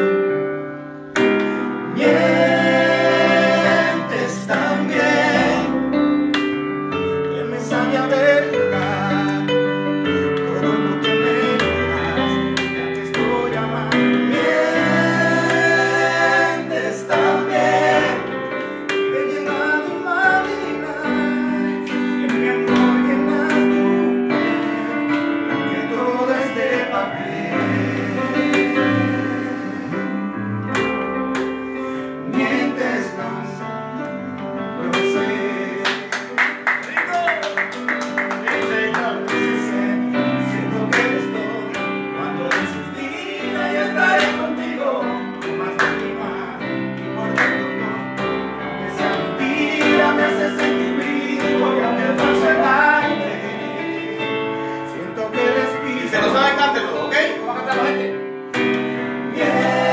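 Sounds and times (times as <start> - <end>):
digital piano chords: 0.0 - 59.9
voices singing together: 0.0 - 59.9.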